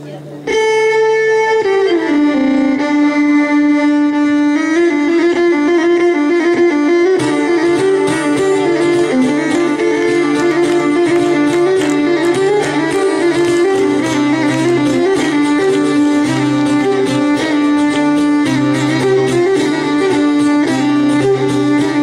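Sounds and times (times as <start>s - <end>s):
folk band playing: 0.0s - 22.0s.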